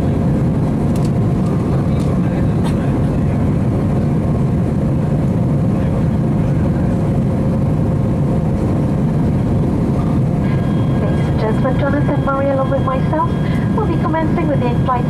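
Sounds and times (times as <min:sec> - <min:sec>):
aircraft cabin engine rumble: 0:00.0 - 0:15.0
faint steady engine tones: 0:00.0 - 0:15.0.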